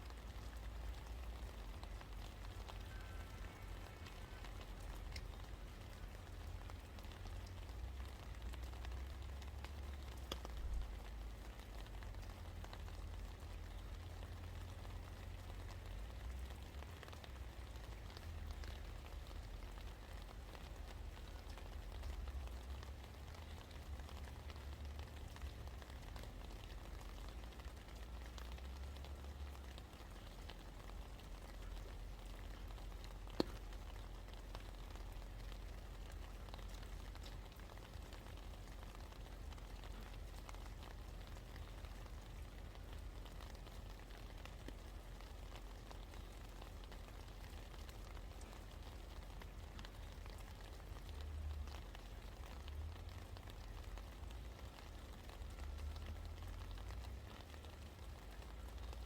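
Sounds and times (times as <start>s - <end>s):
rain pattering on surfaces: 0.0s - 59.0s.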